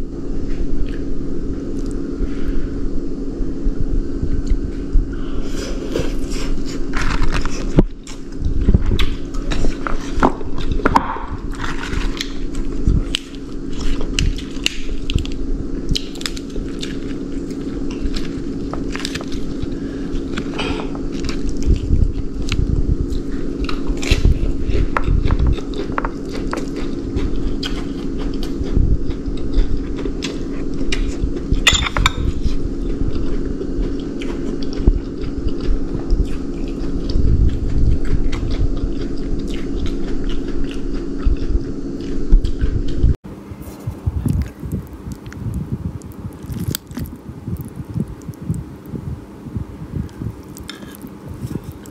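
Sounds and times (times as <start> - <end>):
low hum: 0.0 - 51.9
chewing and biting food: 5.5 - 51.9.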